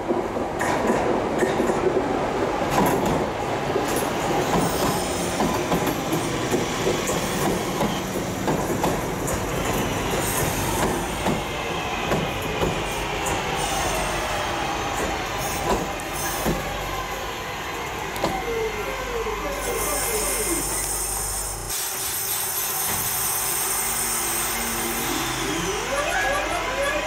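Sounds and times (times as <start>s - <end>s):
train wheels rumbling on rail: 0.0s - 25.7s.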